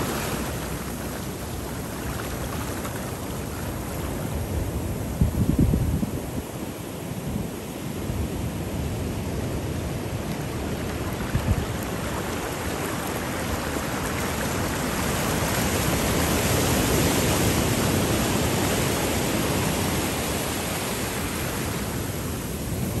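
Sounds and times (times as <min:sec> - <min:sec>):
surf washing on sandy beach: 0:00.0 - 0:23.0.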